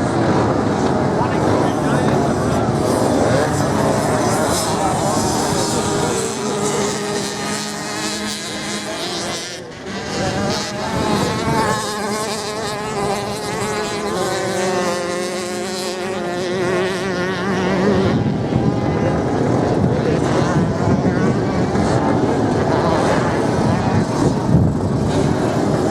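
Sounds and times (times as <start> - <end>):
racing motorcycle engines revving: 0.0 - 25.9.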